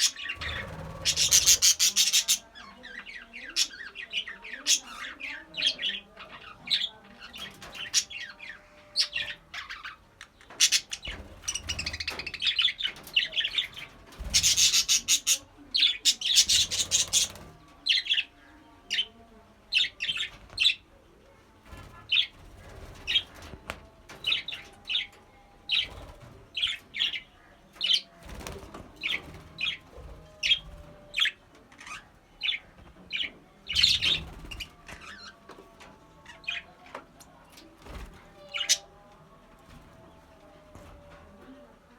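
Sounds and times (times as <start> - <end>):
budgerigars chirping and chattering: 0.0 - 21.0, 21.7 - 39.0.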